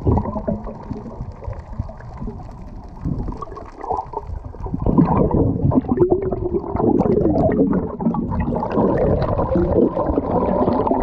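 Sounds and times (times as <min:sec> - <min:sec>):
underwater rumbling and gurgling: 0:00.0 - 0:11.0.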